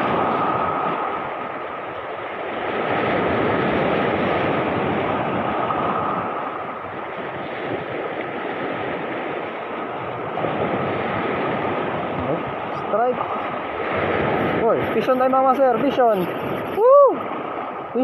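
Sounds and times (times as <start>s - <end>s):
surf washing over rocks: 0.0s - 18.0s.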